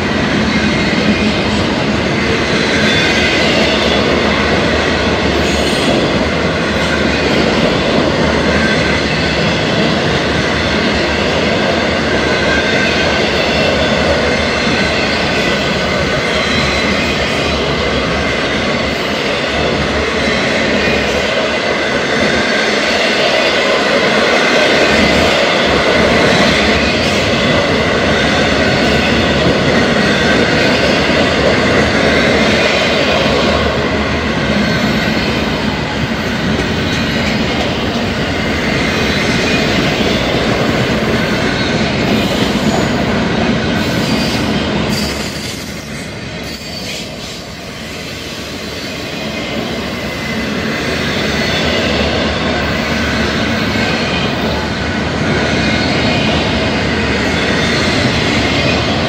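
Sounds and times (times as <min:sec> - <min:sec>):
steel wheels rumbling on rail: 0:00.0 - 0:59.0.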